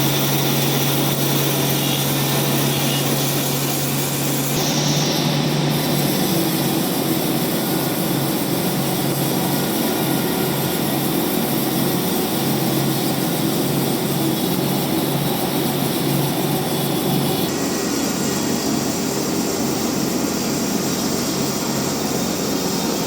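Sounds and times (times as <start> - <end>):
band saw blade cutting log: 0.0 - 23.0
motor hum: 0.0 - 23.0.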